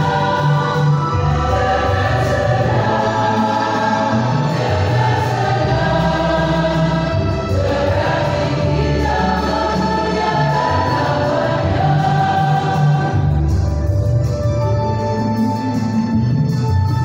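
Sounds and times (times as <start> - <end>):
choir singing a hymn: 0.0 - 14.0
low bass notes: 0.0 - 17.0.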